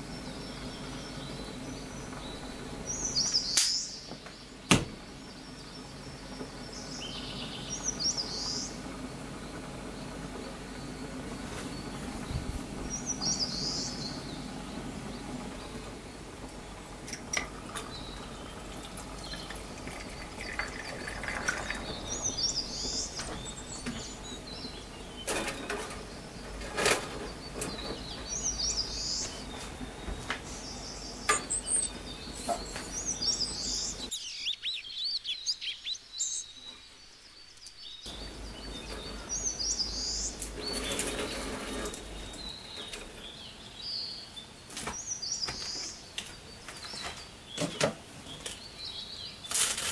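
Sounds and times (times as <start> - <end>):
steady background hum: 0.0 - 49.9.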